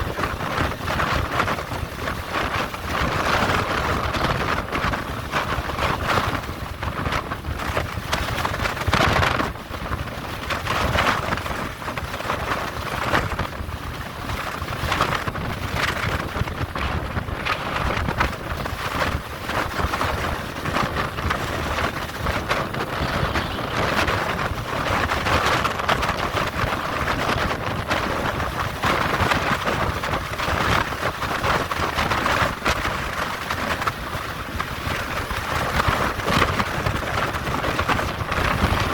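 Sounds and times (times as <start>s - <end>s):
moving vehicle noise: 0.0s - 38.9s
strong wind rushing: 0.0s - 38.9s
wind buffeting microphone: 0.0s - 38.9s.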